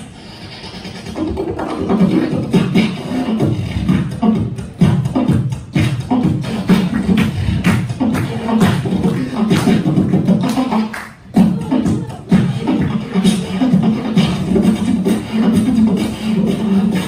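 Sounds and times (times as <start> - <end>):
beatboxing into a microphone: 0.0 - 17.0.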